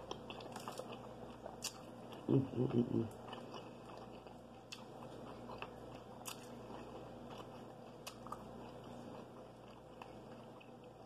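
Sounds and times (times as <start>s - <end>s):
chewing food: 0.0s - 11.0s
low steady hum: 0.0s - 11.0s.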